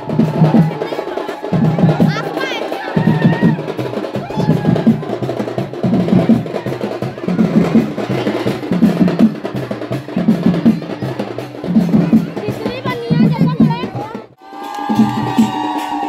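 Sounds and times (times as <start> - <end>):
frame drums beaten fast: 0.0 - 16.0.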